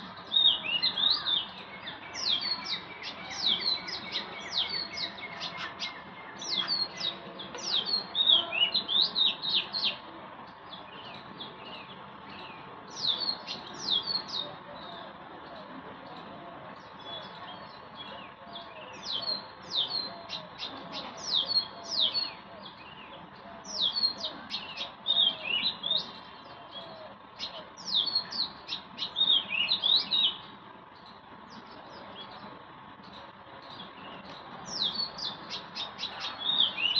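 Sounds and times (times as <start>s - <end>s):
faint steady hum: 0.0s - 36.9s
small birds chirping: 0.0s - 36.9s.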